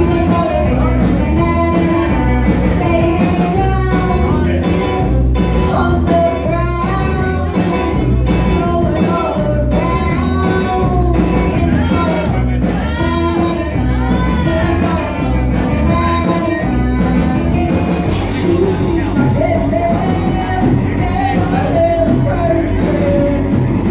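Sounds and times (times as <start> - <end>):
drum kit: 0.0 - 23.9
electric guitars: 0.0 - 23.9
woman singing lead: 0.0 - 23.9.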